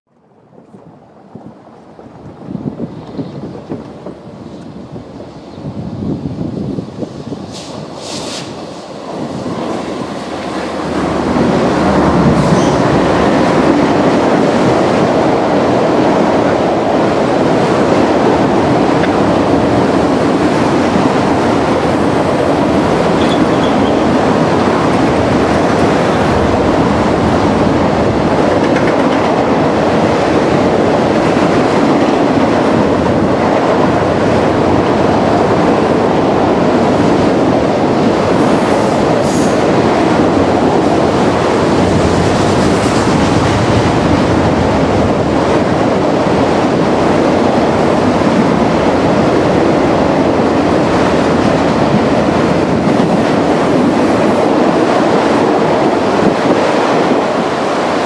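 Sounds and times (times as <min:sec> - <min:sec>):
diesel locomotives passing: 0:00.4 - 0:58.0
train wheels on rails: 0:00.4 - 0:58.0.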